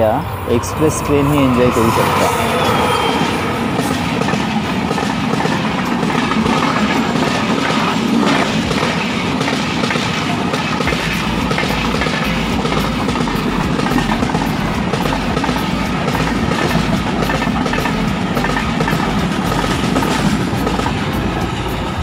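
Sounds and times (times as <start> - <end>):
train wheels clattering on rails: 1.6 - 22.0.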